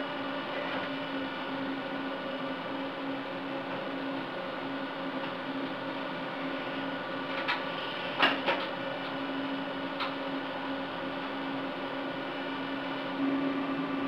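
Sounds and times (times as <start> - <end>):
cooling fans humming: 0.0 - 14.0.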